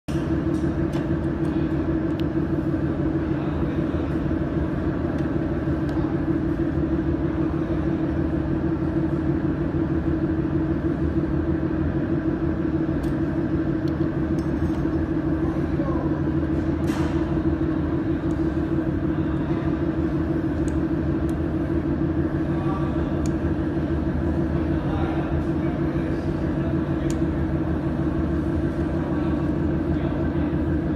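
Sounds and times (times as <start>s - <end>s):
machine hum: 0.1s - 30.9s.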